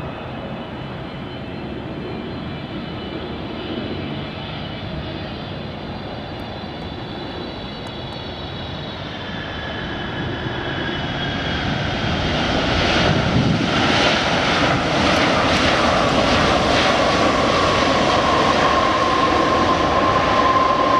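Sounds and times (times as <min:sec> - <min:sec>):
jet engine roar: 0:00.0 - 0:20.9.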